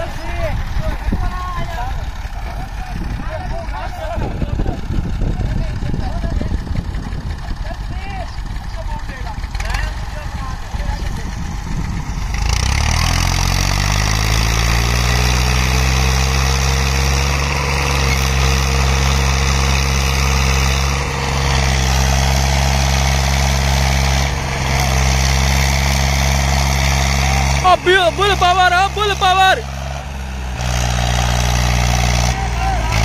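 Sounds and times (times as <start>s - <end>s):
tractor diesel engine revving: 0.0s - 33.0s.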